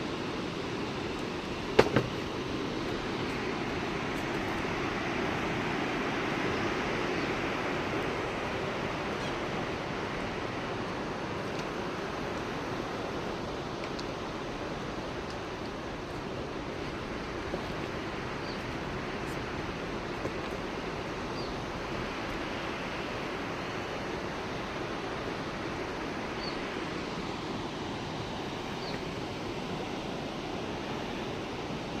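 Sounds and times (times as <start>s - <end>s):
rushing outdoor noise: 0.0s - 32.0s.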